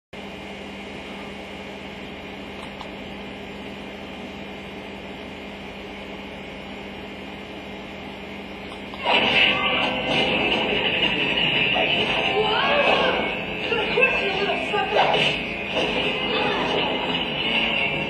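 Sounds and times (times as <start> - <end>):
computer cooling fan humming: 0.2 - 18.0.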